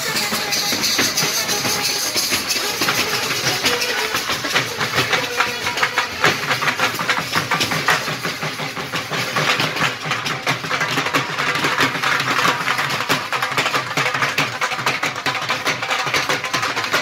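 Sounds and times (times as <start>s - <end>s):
crowd hubbub: 0.0s - 17.0s
dhol drums beating fast: 0.0s - 17.0s.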